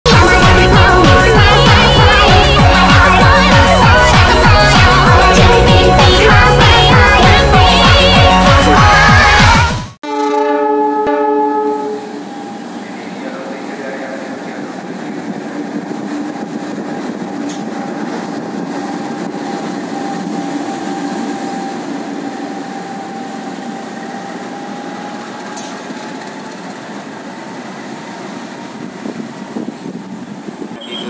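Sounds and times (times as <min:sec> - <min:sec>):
diesel locomotive engine rolling: 0:00.1 - 0:09.6, 0:11.6 - 0:31.0.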